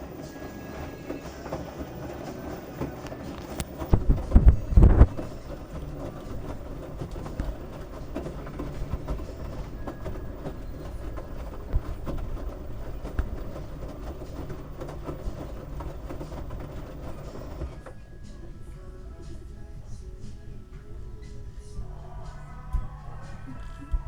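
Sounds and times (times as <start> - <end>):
washing machine drum rumbling: 0.0 - 24.0.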